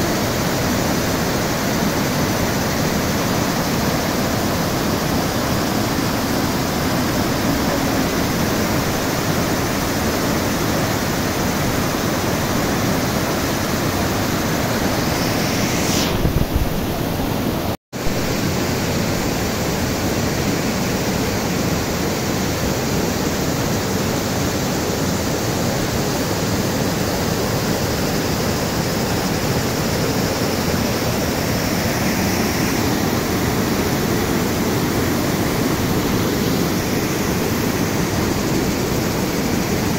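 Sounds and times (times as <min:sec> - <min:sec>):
stream rushing over rocks: 0:00.0 - 0:15.4, 0:16.0 - 0:39.9.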